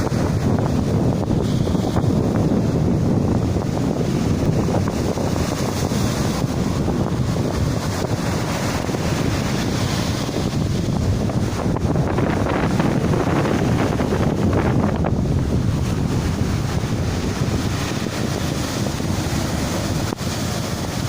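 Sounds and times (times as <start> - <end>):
river rushing: 0.0 - 21.0
wind buffeting microphone: 0.0 - 21.0.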